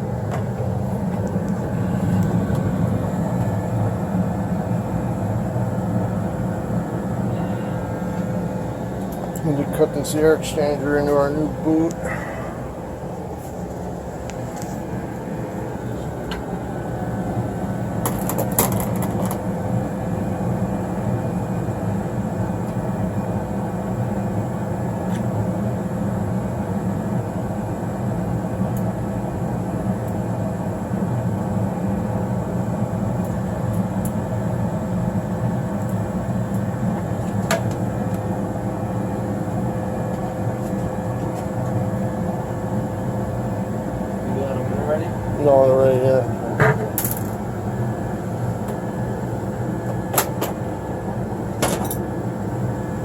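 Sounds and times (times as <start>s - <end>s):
furnace blower humming: 0.0s - 53.0s.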